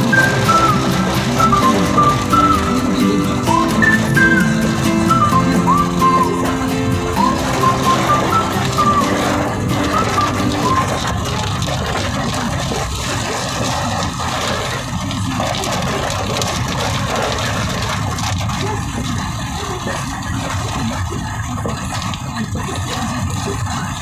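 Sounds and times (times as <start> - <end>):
continuous low rumble: 0.0 - 24.0
heavy rain falling: 0.0 - 24.0.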